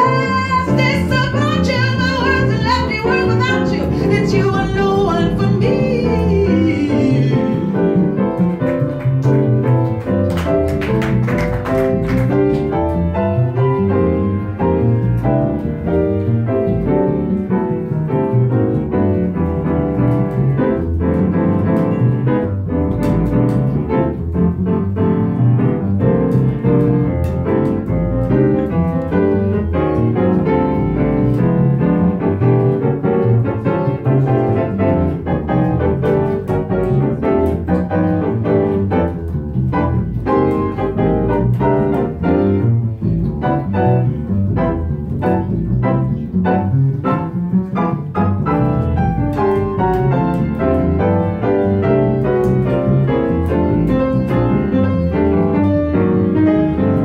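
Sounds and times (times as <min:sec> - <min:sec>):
piano ballad: 0:00.0 - 0:57.0.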